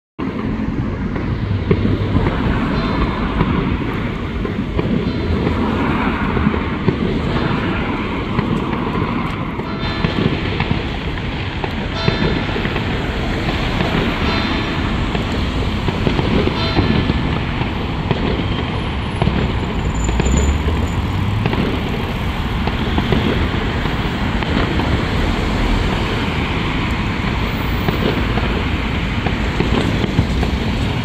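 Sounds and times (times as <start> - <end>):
distant fireworks crackling: 0.2 - 31.0.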